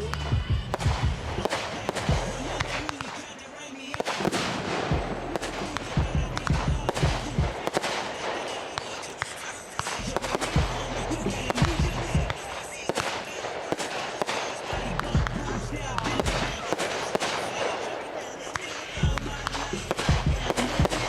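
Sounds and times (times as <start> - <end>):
background music: 0.0 - 8.7, 9.6 - 21.0
fireworks bursting: 0.0 - 21.0.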